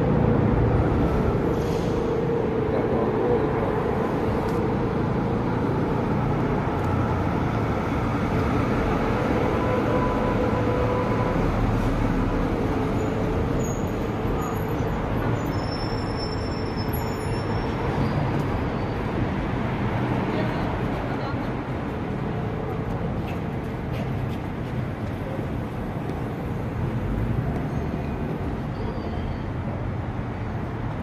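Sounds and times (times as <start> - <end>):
city street noise: 0.0 - 31.0
tram rolling on rails: 0.0 - 31.0.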